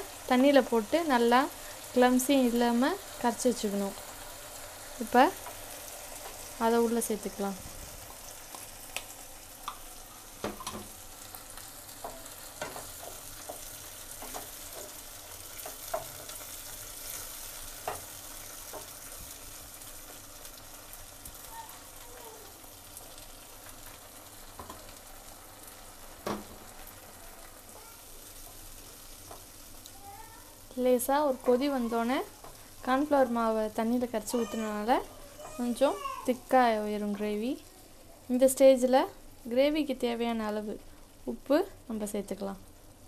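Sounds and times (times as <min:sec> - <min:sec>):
gravy sizzling in pan: 0:00.0 - 0:43.0.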